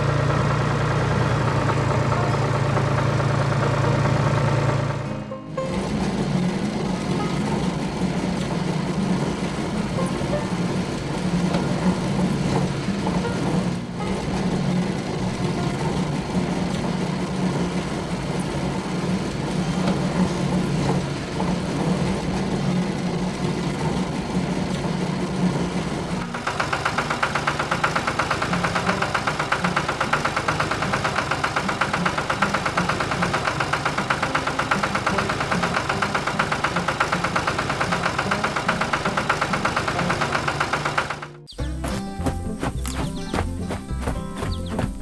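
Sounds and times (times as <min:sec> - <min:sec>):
cartoon truck engine chugging: 0:00.0 - 0:45.0
steady machine hum: 0:00.0 - 0:45.0.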